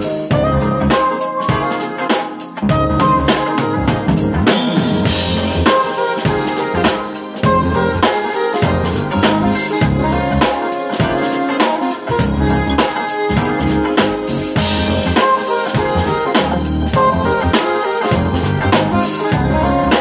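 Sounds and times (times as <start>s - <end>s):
drum kit beat: 0.0s - 20.0s
keyboard chords: 0.0s - 20.0s
saxophone: 0.0s - 20.0s.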